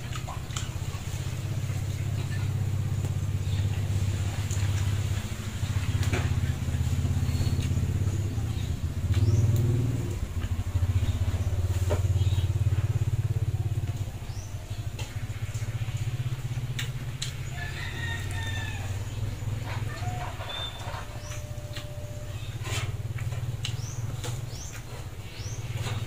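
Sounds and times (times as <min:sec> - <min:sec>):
small engine idling: 0:00.0 - 0:26.0.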